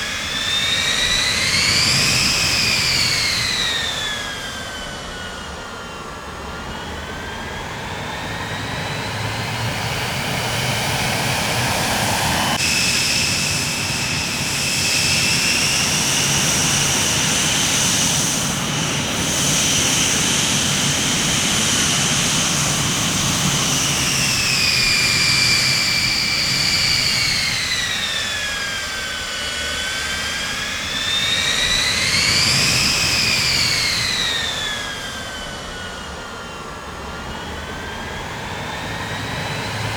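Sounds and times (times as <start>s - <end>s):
jet engine turbine whine: 0.0s - 39.9s.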